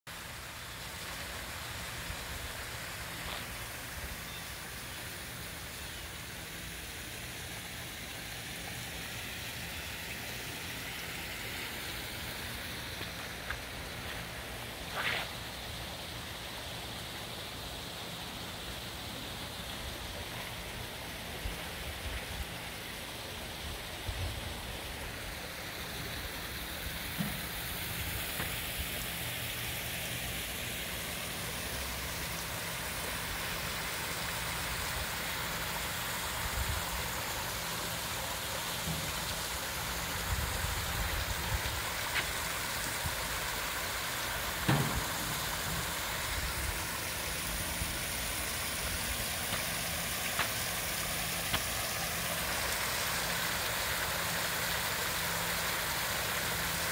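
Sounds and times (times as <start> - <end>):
waterfall rushing: 0.1 - 56.9.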